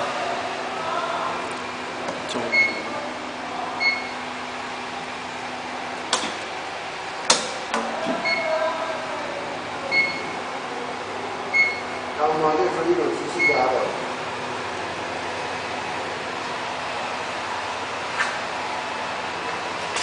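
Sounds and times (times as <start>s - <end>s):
machine mechanical hum: 0.0s - 20.0s.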